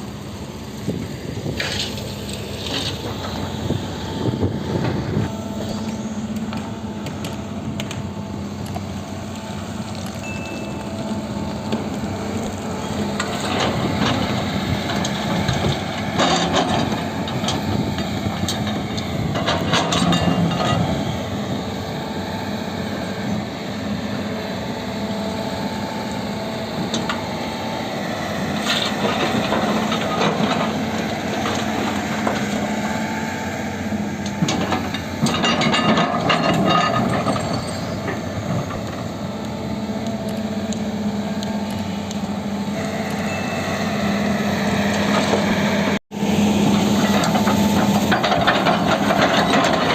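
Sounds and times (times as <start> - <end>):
diesel engine running: 0.0 - 49.9
soil crunching and rattling: 0.6 - 21.4, 26.6 - 42.5, 46.5 - 49.9.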